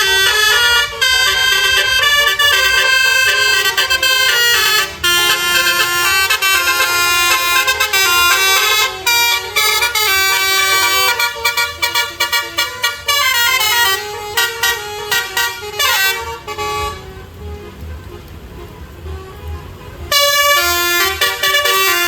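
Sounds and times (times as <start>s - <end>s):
musical vehicle horn tune: 0.0s - 22.0s.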